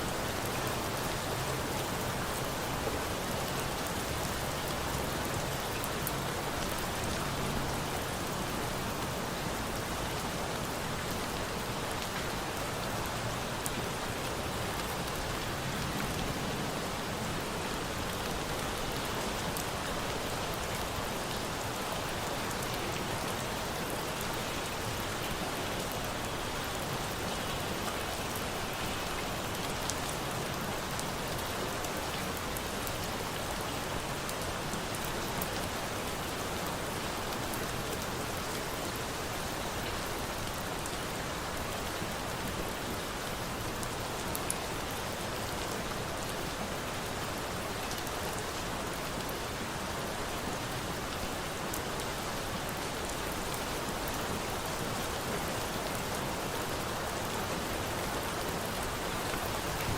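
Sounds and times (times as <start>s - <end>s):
rain pattering: 0.1s - 59.9s.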